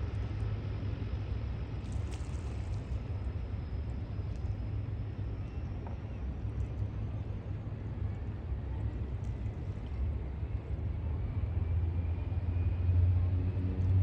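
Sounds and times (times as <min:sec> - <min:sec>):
floatplane engine rumble: 0:00.0 - 0:14.0.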